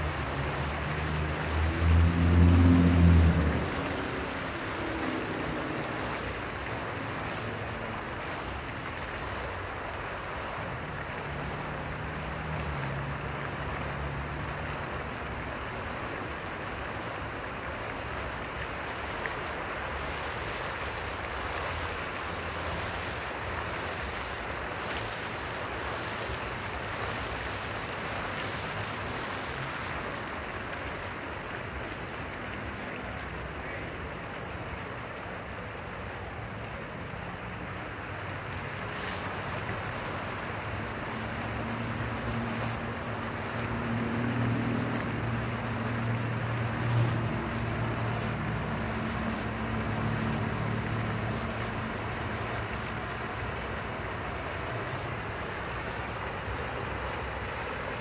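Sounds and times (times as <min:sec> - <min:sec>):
fountain water splashing: 0:00.0 - 0:58.0.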